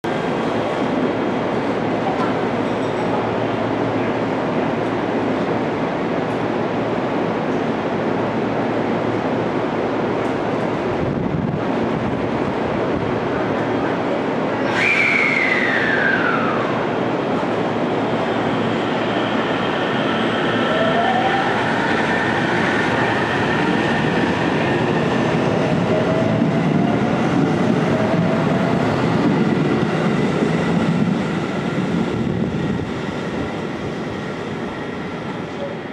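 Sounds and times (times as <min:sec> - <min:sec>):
train wheels rumbling on rail: 0:00.0 - 0:35.9.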